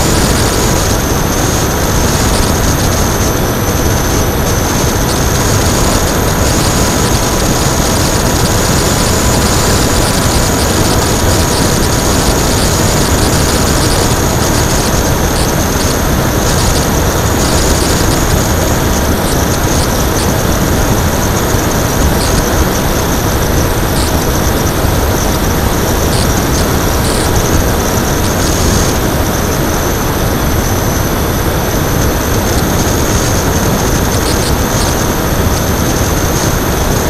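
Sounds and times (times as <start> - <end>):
electric motor propeller drone: 0.0 - 37.0
wind rushing over camera: 0.0 - 37.0.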